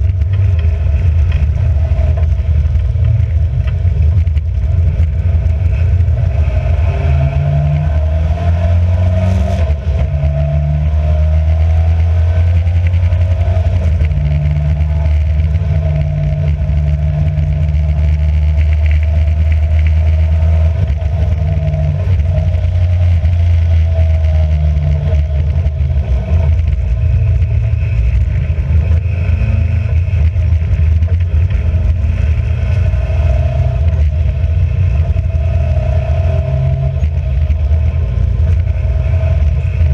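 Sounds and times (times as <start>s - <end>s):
racing car engine running hard: 0.0s - 39.9s.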